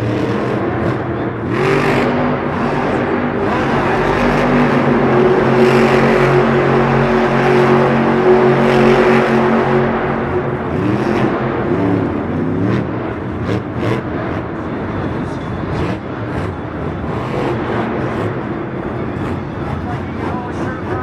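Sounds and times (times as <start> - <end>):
monster truck engine revving: 0.0 - 21.0.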